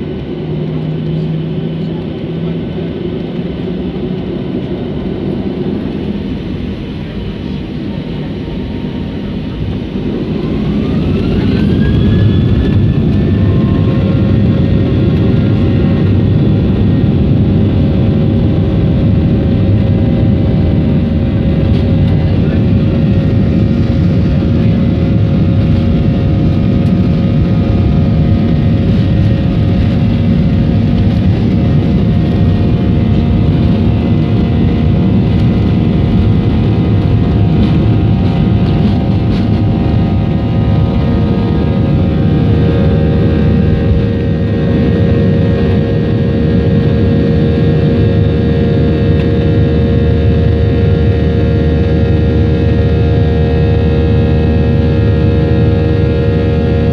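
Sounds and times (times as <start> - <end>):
jet engines spooling up: 0.0 - 56.9.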